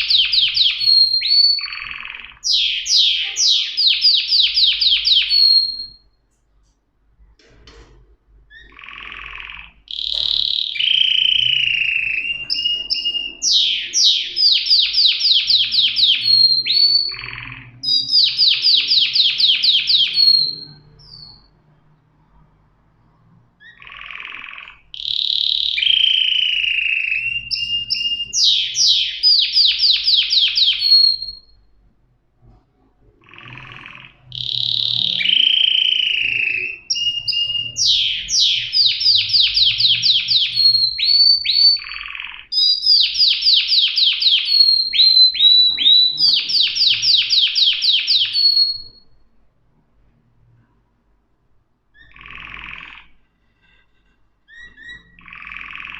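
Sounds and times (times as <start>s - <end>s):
canary singing: 0.0s - 6.3s, 8.4s - 21.7s, 23.6s - 31.9s, 32.8s - 49.3s, 51.8s - 55.9s.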